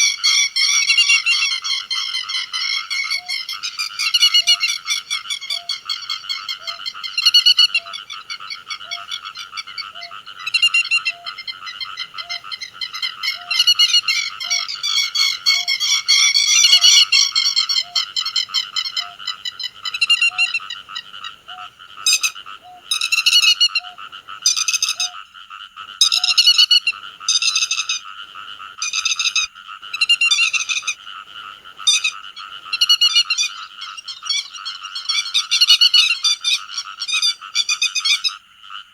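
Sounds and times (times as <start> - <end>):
lapwing calls: 0.0 - 38.9.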